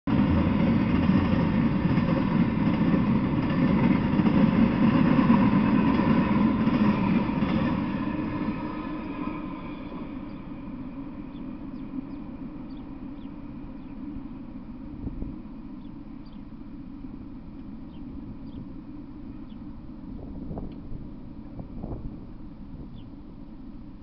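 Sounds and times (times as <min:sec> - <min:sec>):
freight train wheels on rail: 0:00.1 - 0:24.0.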